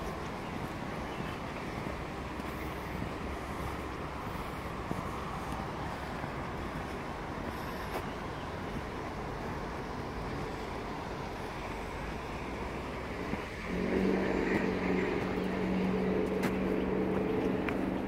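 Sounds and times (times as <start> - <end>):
low engine hum: 0.0 - 18.0
road traffic: 0.0 - 18.0.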